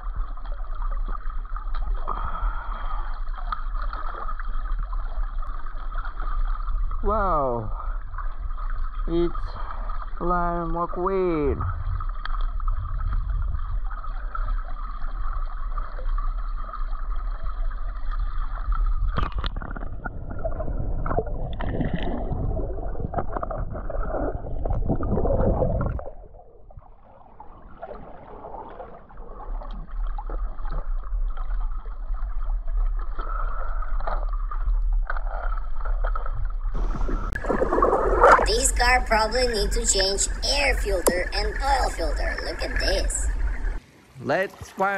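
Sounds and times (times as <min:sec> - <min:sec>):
water sloshing and gurgling: 0:00.0 - 0:44.9.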